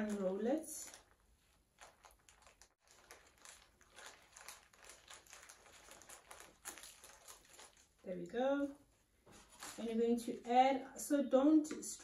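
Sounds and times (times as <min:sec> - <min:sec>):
baking paper rustling and crackling: 0:00.0 - 0:10.6.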